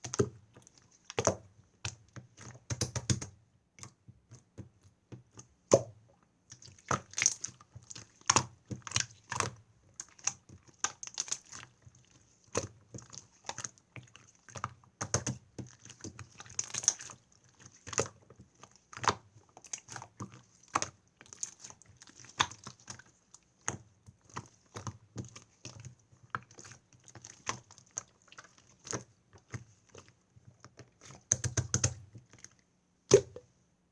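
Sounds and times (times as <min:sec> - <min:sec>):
slime squishing with sticky clicks: 0:00.0 - 0:33.6.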